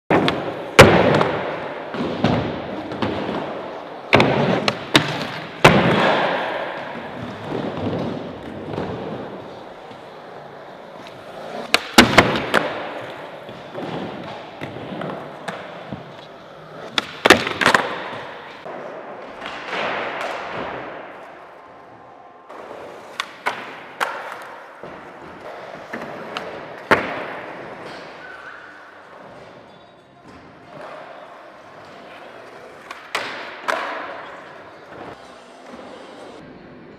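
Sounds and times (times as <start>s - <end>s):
skateboard wheels rolling: 0.1s - 36.6s.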